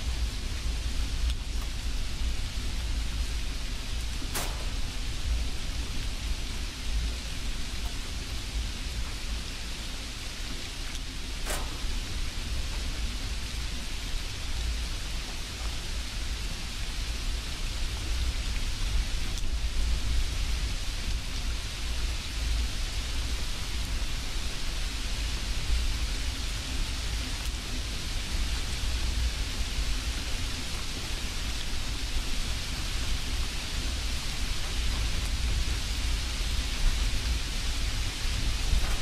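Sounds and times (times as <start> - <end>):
steady hissing: 0.0 - 22.8, 27.8 - 39.0.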